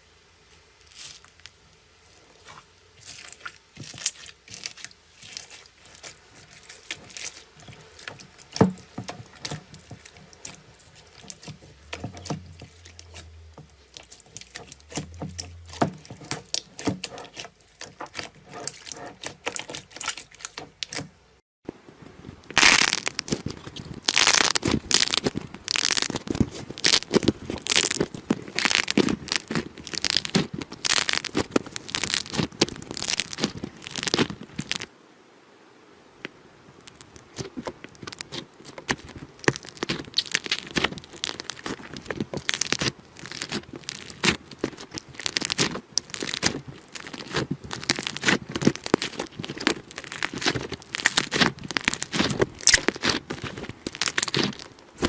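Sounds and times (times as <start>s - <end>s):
hands working sticky slime: 0.8s - 21.2s, 22.5s - 34.9s, 36.9s - 55.0s.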